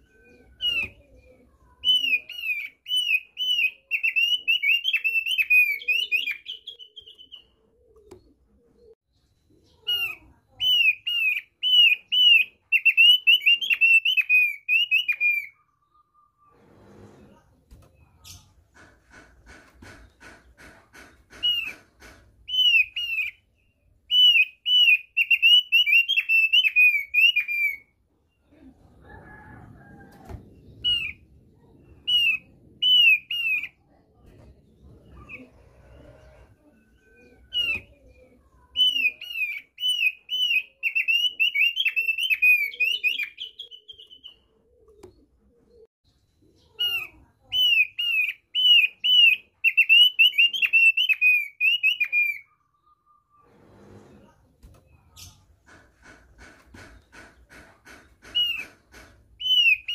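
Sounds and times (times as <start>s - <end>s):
bird chirping song: 0.0s - 17.1s, 17.8s - 28.7s, 30.5s - 53.8s, 54.8s - 59.9s.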